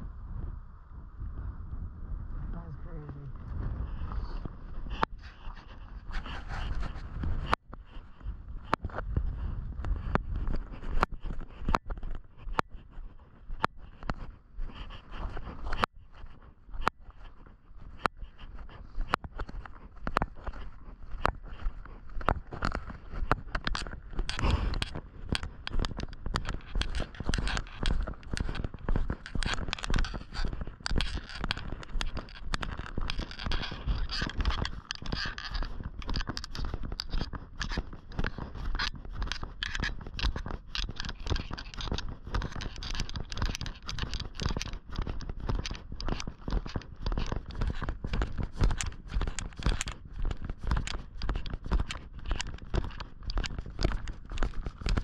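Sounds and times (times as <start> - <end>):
footsteps crunching on a trail: 2.6 - 55.0.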